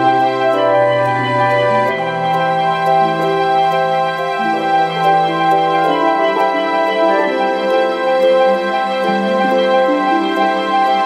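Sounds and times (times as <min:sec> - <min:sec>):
gentle held chords: 0:00.0 - 0:11.0.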